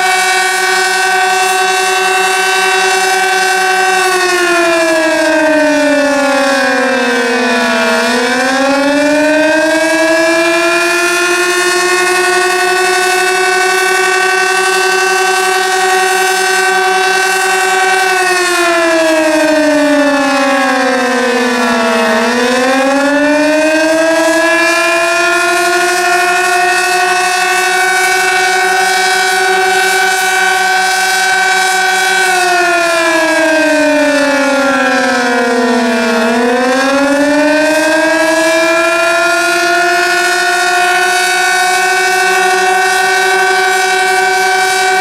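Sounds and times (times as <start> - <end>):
warning siren wailing: 0.0 - 45.0.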